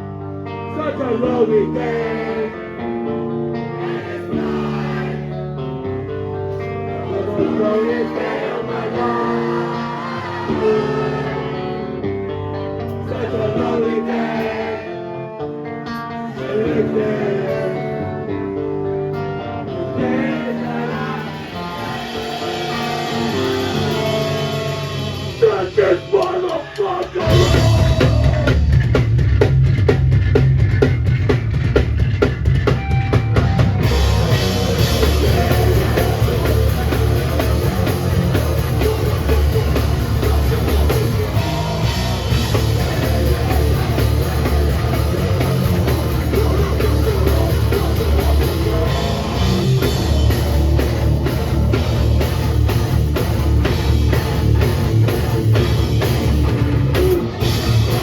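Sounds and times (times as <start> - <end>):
bass guitar: 0.0 - 58.0
distorted guitars: 0.0 - 58.0
drums: 3.8 - 5.4, 6.5 - 14.7, 19.2 - 58.0.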